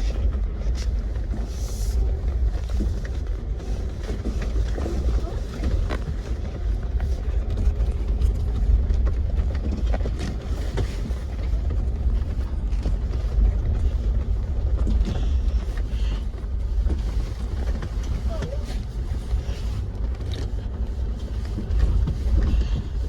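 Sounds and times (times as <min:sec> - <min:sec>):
vehicle engine and tyres rumbling: 0:00.0 - 0:23.0.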